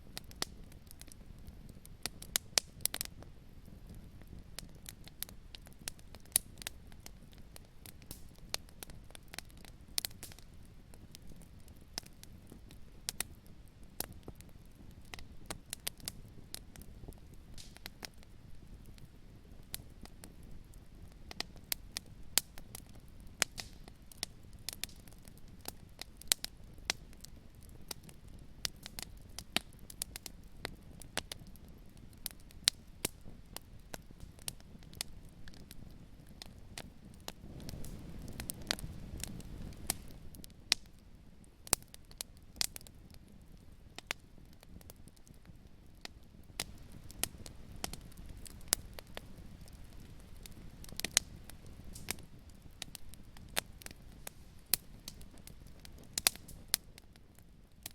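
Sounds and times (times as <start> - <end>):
low rumble of flames: 0.0 - 57.9
wood fire crackling and popping: 0.0 - 57.9.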